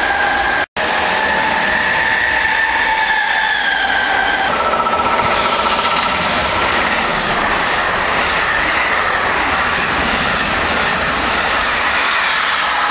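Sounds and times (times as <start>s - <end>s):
train wheels rushing on rails: 0.0s - 12.9s.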